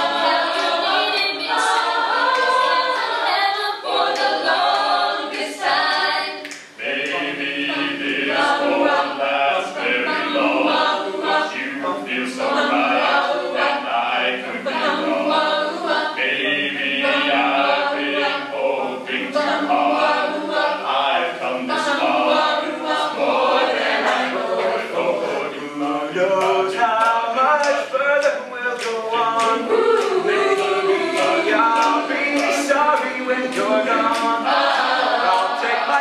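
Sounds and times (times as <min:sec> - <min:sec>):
a cappella group singing in harmony: 0:00.0 - 0:36.0.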